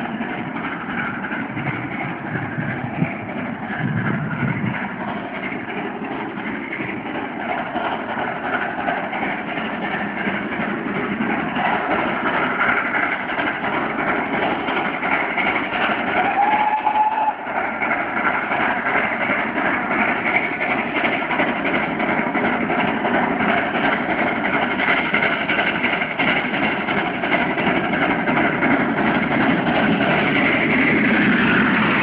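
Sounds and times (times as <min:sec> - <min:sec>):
steam locomotive exhaust: 0:00.0 - 0:32.0.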